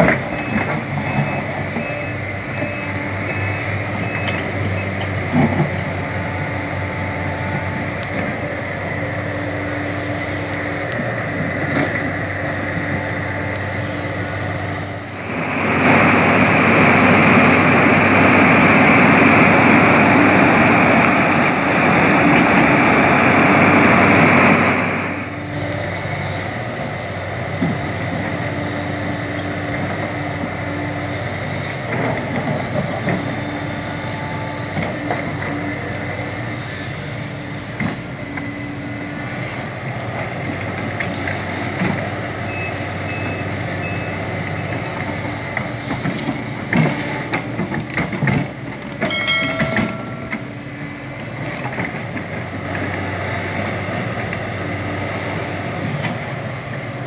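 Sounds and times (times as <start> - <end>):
excavator diesel engine running: 0.0 - 57.0
loud rough engine noise: 0.0 - 57.0.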